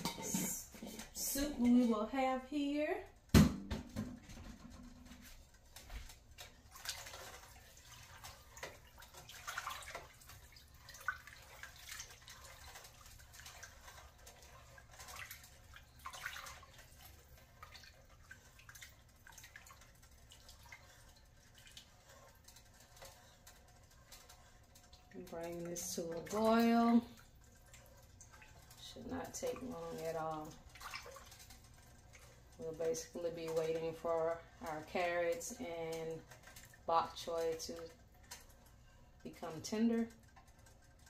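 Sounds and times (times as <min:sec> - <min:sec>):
splashes and drips in broth: 0:05.2 - 0:39.2.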